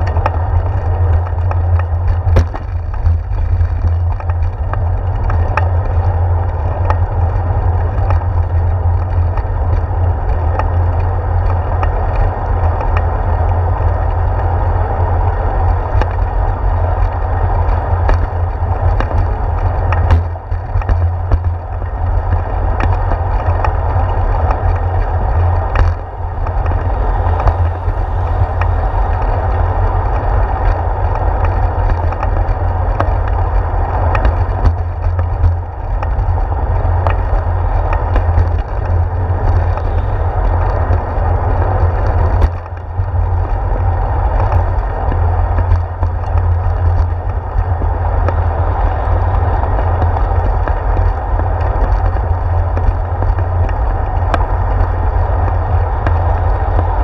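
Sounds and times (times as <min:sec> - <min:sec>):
small knocks and clicks: 0:00.0 - 0:14.4, 0:15.6 - 0:57.0
tyres rolling on concrete: 0:00.0 - 0:57.0
wind rumble: 0:00.0 - 0:57.0.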